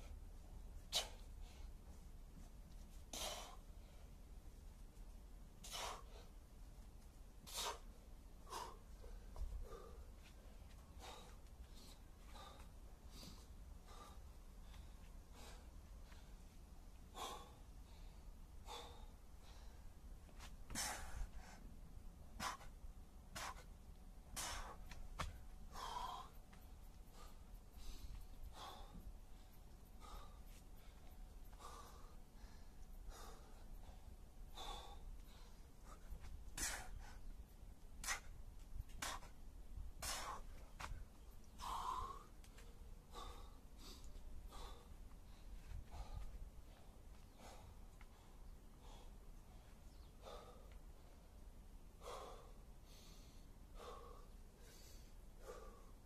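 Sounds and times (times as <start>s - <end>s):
man breathing hard: 0.8s - 2.0s, 2.9s - 4.3s, 5.6s - 6.5s, 7.4s - 37.4s, 38.0s - 56.0s.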